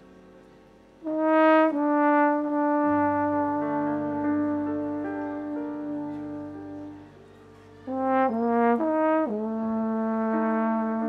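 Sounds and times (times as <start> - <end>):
big band horns playing chords: 1.0 - 11.0.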